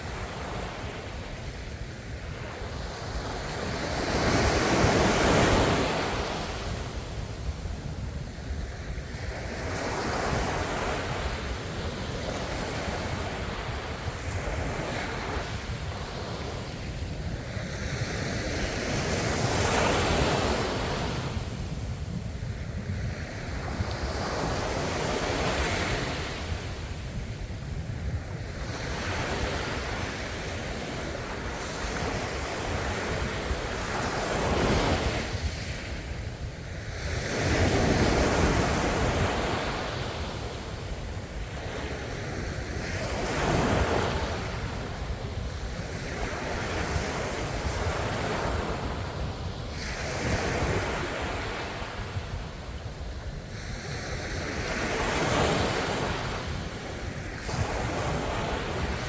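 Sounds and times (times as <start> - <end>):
ocean waves breaking on shore: 0.0 - 59.0
wind noise: 0.0 - 59.0.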